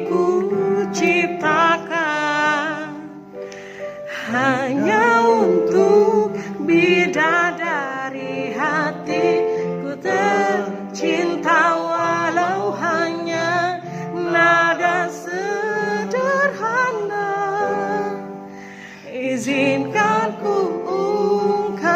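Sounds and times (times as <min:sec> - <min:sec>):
person singing pop ballad: 0:00.0 - 0:21.9.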